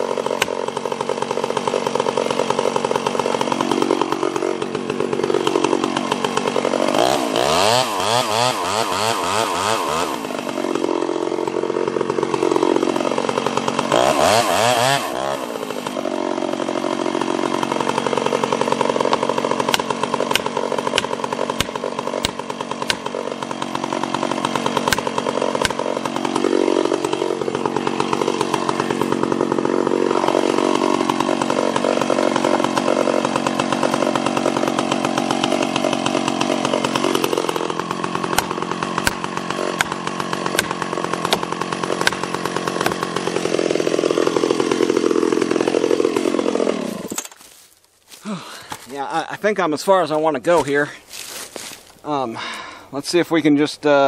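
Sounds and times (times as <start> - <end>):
chainsaw cutting into tree: 0.0 - 53.0.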